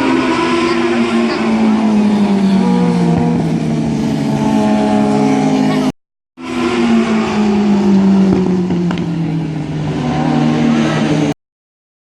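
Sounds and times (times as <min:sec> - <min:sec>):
sportbike engine and exhaust: 0:00.0 - 0:11.3.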